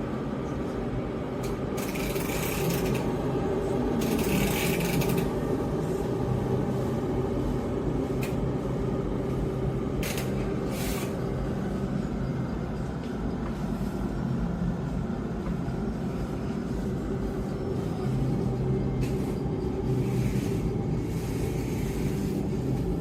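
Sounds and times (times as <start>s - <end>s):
appliance electrical hum: 0.0s - 23.0s.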